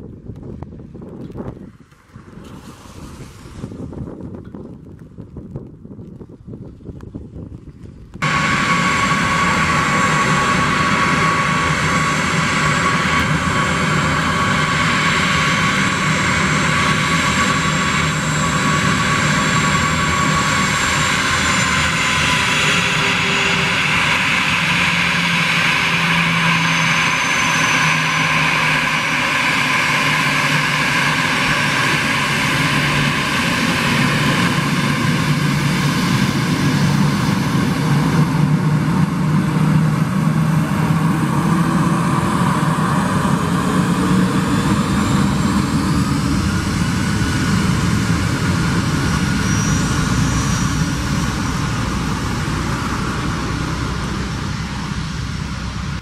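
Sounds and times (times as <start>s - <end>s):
jet engines whining: 8.2s - 56.0s.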